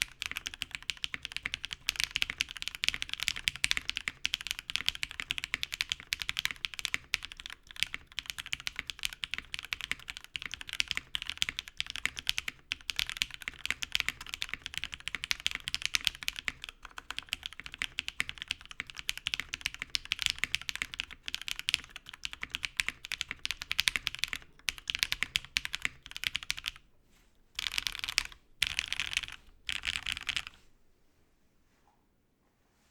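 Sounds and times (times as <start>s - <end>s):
typing on mechanical keyboard: 0.0s - 26.8s, 27.6s - 30.6s.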